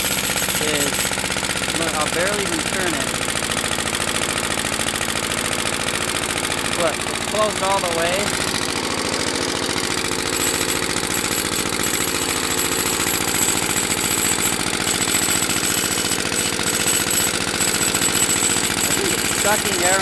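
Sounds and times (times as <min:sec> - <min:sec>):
lawn mower engine idling: 0:00.0 - 0:20.0.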